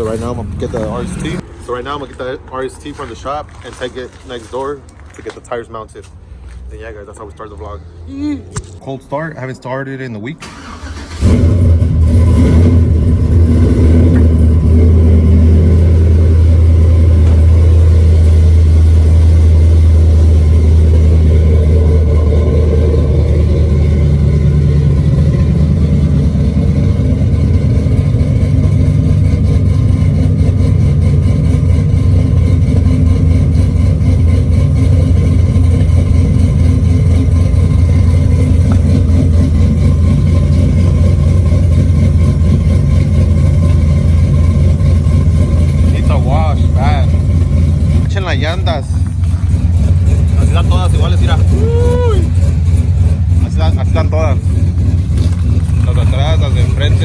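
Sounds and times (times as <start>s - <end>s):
truck engine idling: 0.0s - 9.4s, 10.4s - 57.0s.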